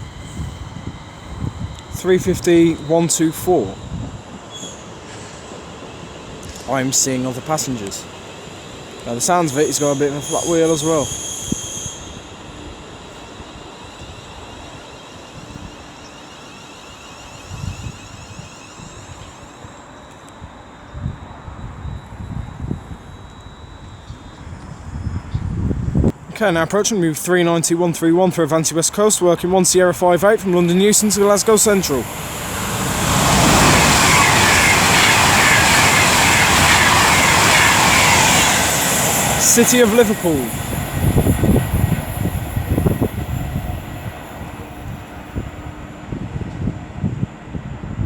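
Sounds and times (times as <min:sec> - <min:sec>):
wind buffeting microphone: 0:00.0 - 0:16.1, 0:17.2 - 0:19.7, 0:20.4 - 0:26.6, 0:28.9 - 0:48.0
electric train hum and whine: 0:00.0 - 0:48.0.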